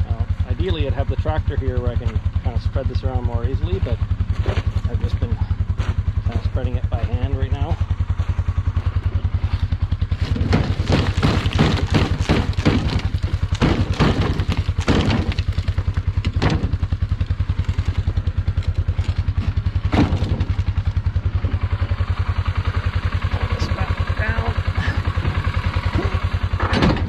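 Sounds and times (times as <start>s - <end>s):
gravel crunching as it is spread: 0.0s - 23.8s
engine idling: 0.0s - 27.0s.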